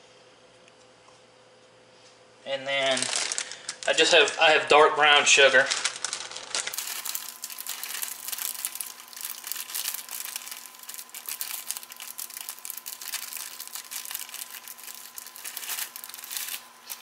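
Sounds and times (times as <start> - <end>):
sugar crinkling and rustling: 2.6 - 17.0.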